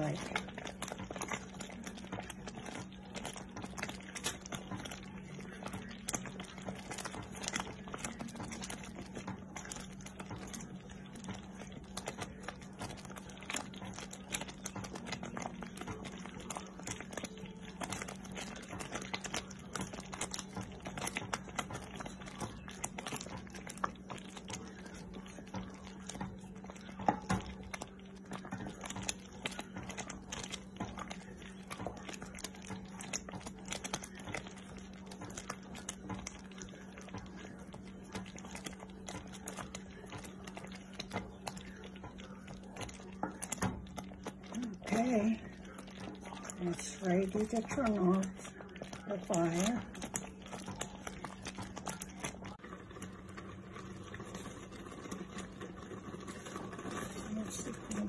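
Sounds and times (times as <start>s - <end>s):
jam boiling and popping: 0.0s - 58.0s
wooden spoon stirring: 0.0s - 58.0s.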